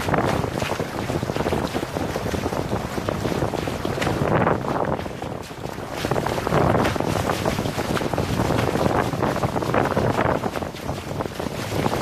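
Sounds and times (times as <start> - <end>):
water slapping against hulls: 0.0 - 12.0
wind buffeting microphone: 0.0 - 12.0.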